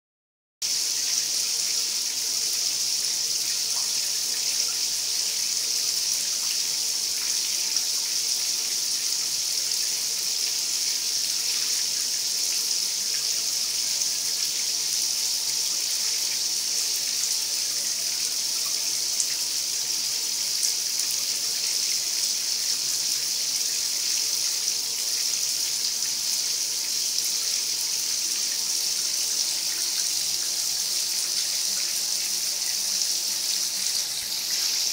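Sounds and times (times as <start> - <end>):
water running into bathtub: 0.6 - 34.9.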